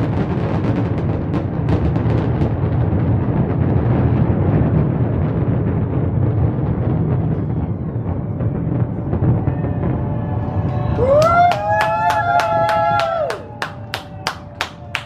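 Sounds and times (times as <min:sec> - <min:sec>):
fireworks exploding and crackling: 0:00.0 - 0:15.0.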